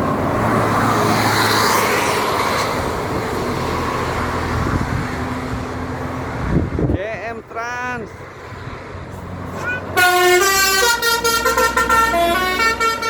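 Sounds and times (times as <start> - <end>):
bus driving past: 0.0 - 6.9, 8.0 - 13.0.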